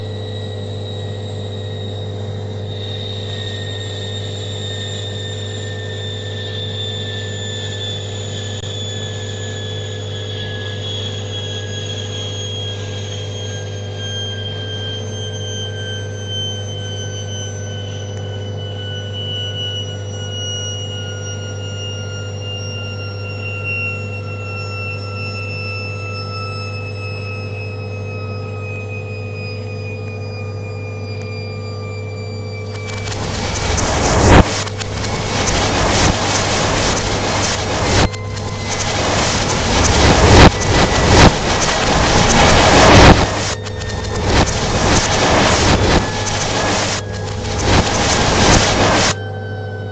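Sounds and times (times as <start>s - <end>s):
high motor whine: 0.0s - 49.9s.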